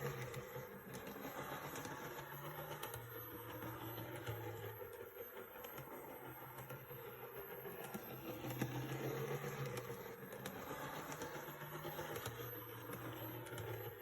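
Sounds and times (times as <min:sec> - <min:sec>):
model train motor humming: 0:00.0 - 0:14.0.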